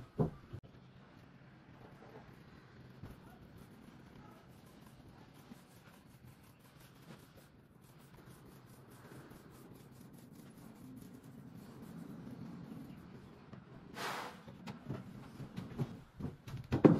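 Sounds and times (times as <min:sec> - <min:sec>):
paint roller rolling on board: 0:01.4 - 0:16.9.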